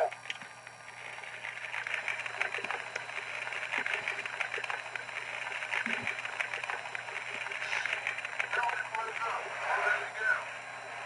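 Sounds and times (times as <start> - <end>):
smoke effect hissing and crackling: 1.0 - 11.0.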